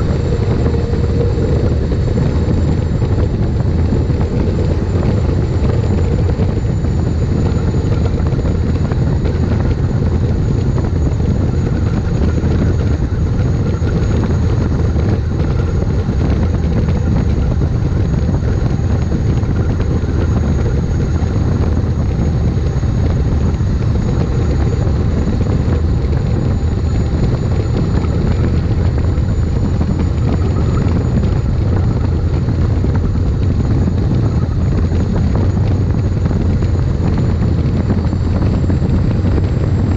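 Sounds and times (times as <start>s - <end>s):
turbine engine whine and rumble: 0.0s - 39.9s.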